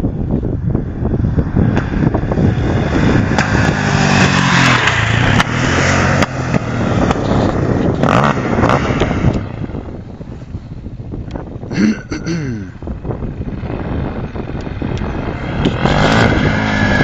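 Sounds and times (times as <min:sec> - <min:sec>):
motorcycle engine under throttle: 0:00.0 - 0:11.6, 0:12.5 - 0:17.0
wind noise on microphone: 0:00.0 - 0:17.0.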